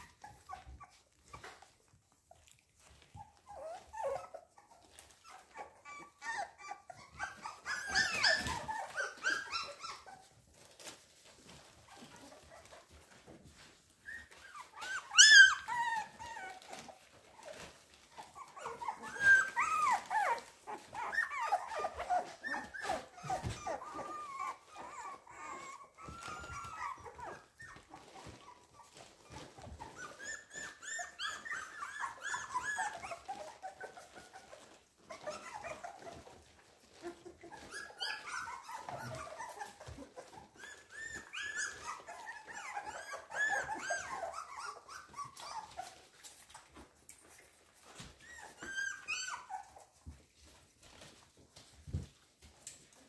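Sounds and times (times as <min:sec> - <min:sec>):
puppies whimpering and squeaking: 0:00.0 - 0:53.0.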